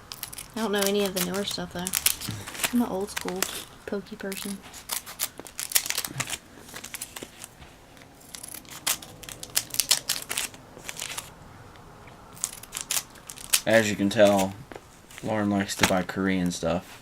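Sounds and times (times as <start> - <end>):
foil wrapper crinkling: 0.0 - 11.3, 12.4 - 16.0.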